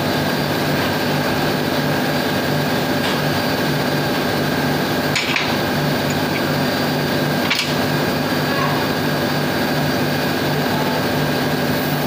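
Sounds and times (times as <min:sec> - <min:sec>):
engine room machinery drone: 0:00.0 - 0:12.0.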